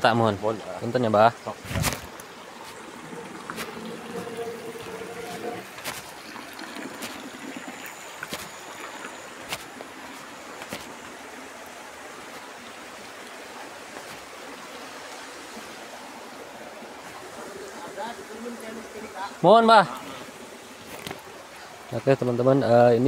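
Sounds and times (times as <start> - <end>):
stream rushing over rocks: 0.1 - 23.0
water trickling into stone basin: 0.5 - 23.0.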